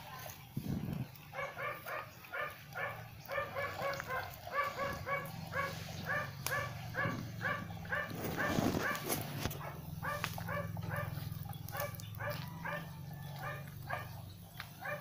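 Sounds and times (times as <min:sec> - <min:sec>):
small dog yapping: 0:01.3 - 0:14.2.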